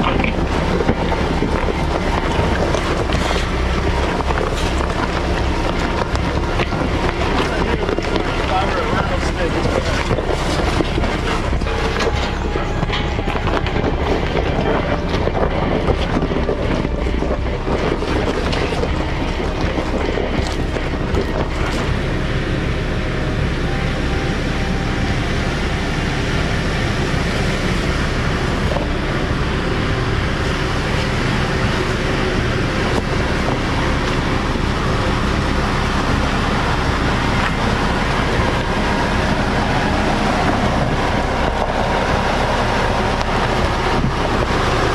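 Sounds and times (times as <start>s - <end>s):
engine and tyres rumbling: 0.0s - 44.9s
wind buffeting microphone: 0.0s - 44.9s.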